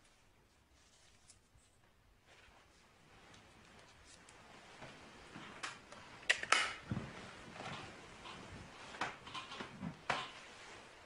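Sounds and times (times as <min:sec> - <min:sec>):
cloth rustling: 0:00.0 - 0:11.0.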